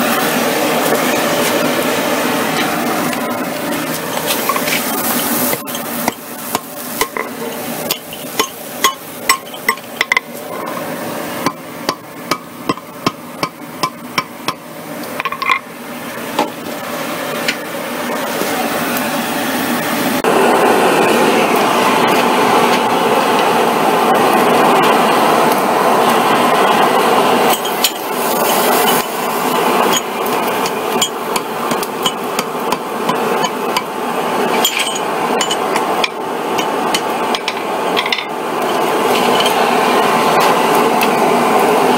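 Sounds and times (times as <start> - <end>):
loud steady rushing noise: 0.0 - 41.9.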